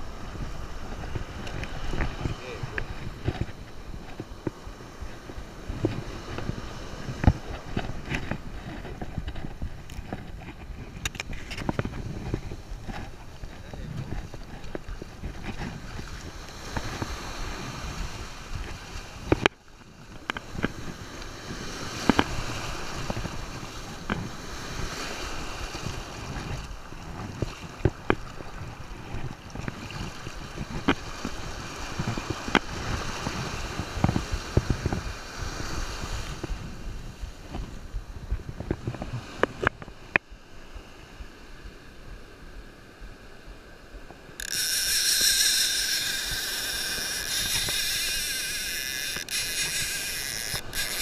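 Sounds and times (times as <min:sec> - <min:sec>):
surf splashing around wading legs: 0:00.0 - 0:51.0
wind rumbling on microphone: 0:00.0 - 0:51.0.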